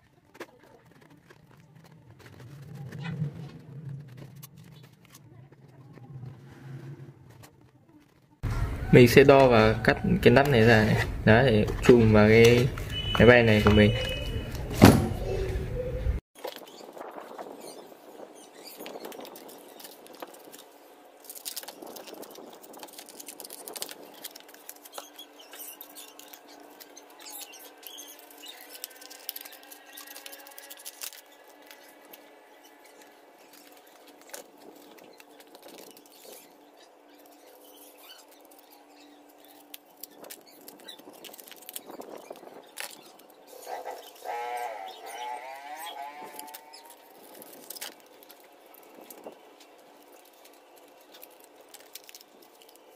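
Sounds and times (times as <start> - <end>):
foam squeaking against foam: 0.0 - 52.9.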